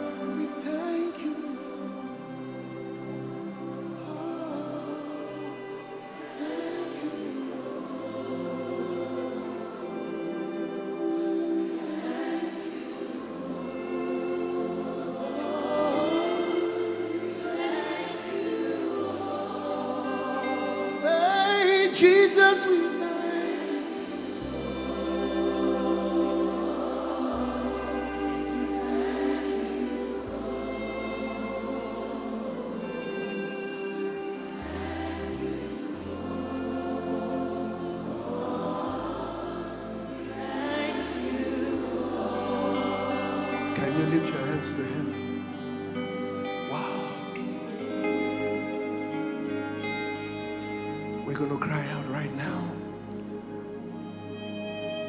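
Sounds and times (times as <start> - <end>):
group singing gospel music: 0.0 - 55.0
keyboard: 0.0 - 55.0
sustained chords: 0.0 - 55.0.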